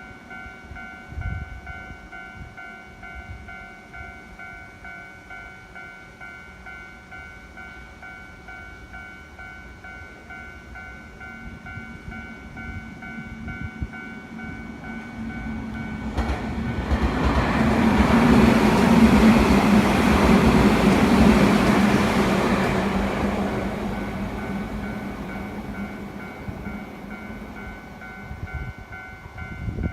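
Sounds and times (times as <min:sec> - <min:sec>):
electric train rumbling past: 0:00.0 - 0:29.9
level-crossing warning bell: 0:00.0 - 0:29.9.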